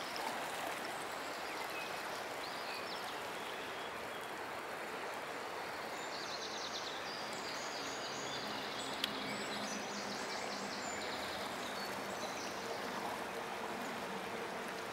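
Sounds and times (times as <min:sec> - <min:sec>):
river rushing: 0:00.0 - 0:14.9.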